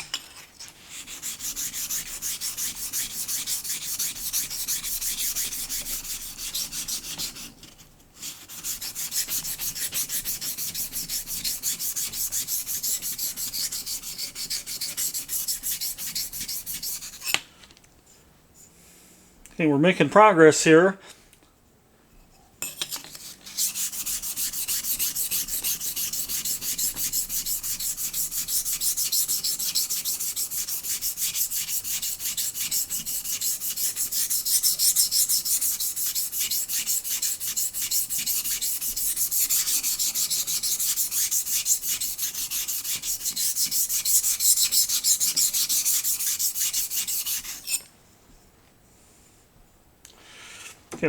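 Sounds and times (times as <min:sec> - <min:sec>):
plane blade scraping on water stone: 0:00.0 - 0:07.6, 0:08.2 - 0:17.4, 0:22.7 - 0:47.9.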